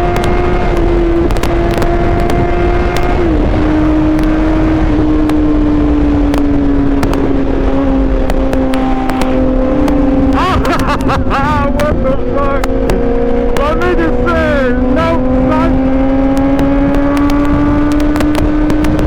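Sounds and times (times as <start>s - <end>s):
motorcycle engine running: 0.0s - 19.0s
wind rushing on microphone: 0.0s - 19.0s.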